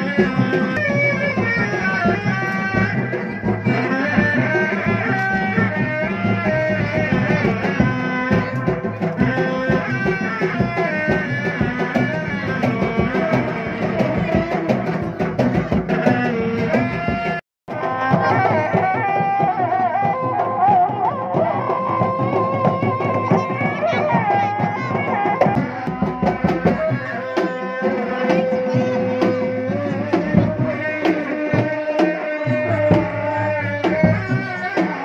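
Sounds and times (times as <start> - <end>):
steady drumming: 0.0 - 35.0.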